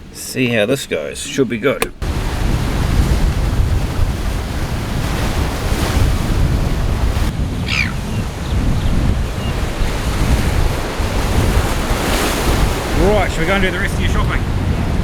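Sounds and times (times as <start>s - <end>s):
sea surf: 1.9s - 15.0s
wind buffeting microphone: 1.9s - 15.0s.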